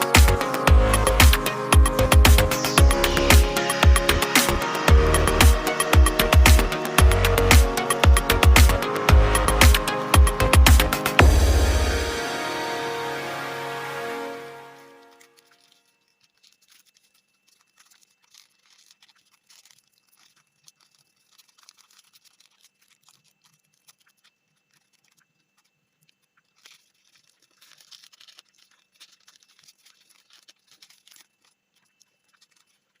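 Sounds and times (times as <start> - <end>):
paper crinkling while folded: 0.0 - 33.0.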